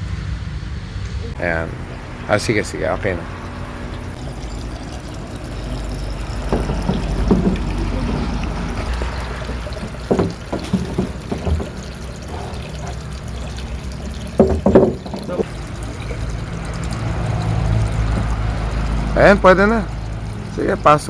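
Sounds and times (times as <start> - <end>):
water pouring into pond: 1.4 - 21.0.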